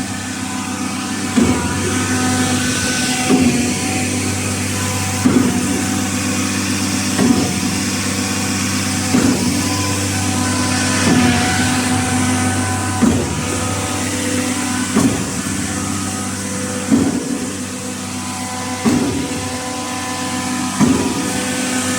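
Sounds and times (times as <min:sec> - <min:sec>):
concrete pump engine humming: 0:00.0 - 0:21.9
pump clunking: 0:00.0 - 0:21.9.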